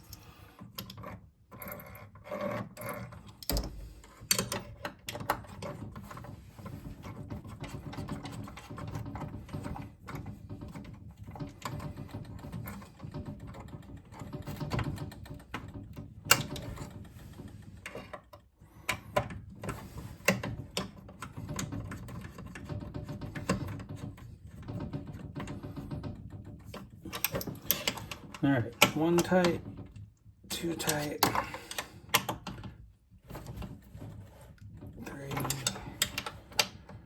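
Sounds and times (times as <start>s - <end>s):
screwdriver scraping and clicking: 0.0s - 37.0s.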